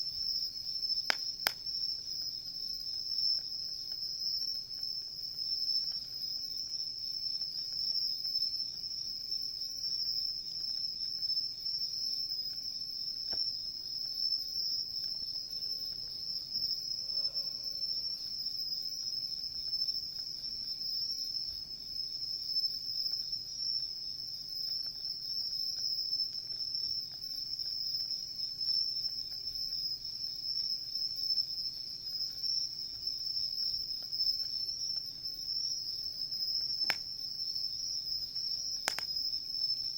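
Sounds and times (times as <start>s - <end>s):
crickets trilling: 0.0s - 39.9s
wood fire crackle: 0.0s - 39.9s.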